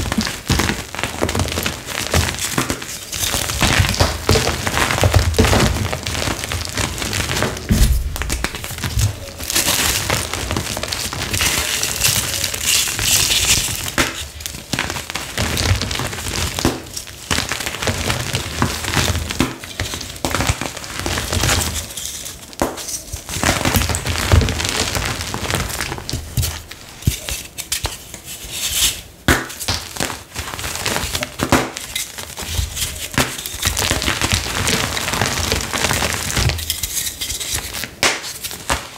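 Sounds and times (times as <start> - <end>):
chalk blocks crunching in hands: 0.0 - 38.9.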